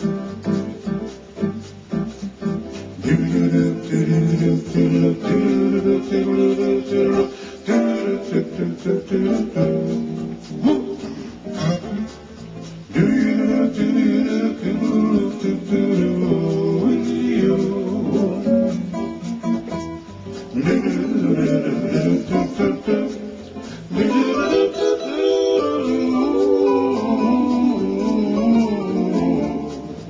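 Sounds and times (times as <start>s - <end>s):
mellow song with acoustic guitar: 0.0s - 30.0s.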